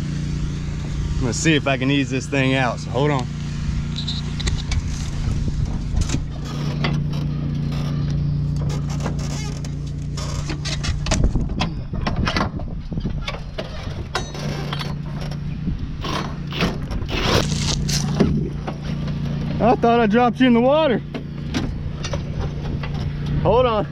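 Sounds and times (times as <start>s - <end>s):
small mower engine running: 0.0s - 12.4s, 13.3s - 23.9s.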